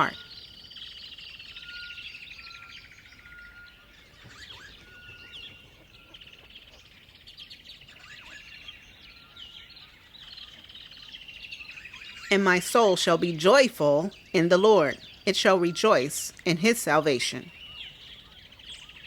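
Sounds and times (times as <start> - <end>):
songbirds chirping and trilling: 0.0 - 19.0
whistled bird notes: 0.0 - 19.0.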